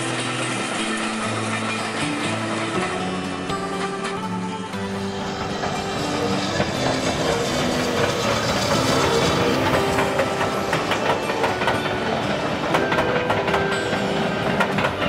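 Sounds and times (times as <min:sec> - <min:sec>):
background music: 0:00.0 - 0:15.0
train wheels clicking over rail joints: 0:00.0 - 0:15.0.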